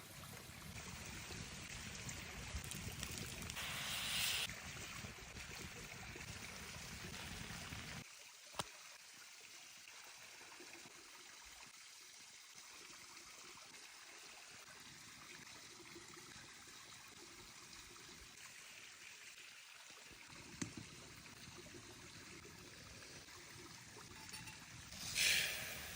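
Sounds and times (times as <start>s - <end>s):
running water: 0.0s - 25.9s.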